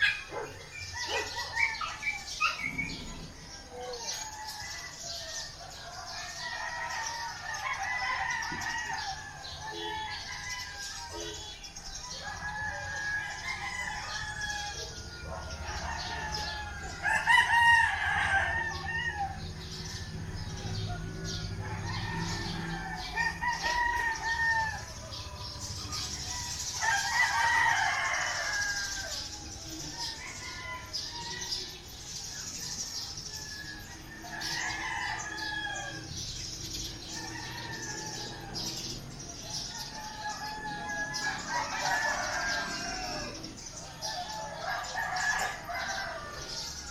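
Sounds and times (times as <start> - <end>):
roosters crowing: 0.0 - 46.9.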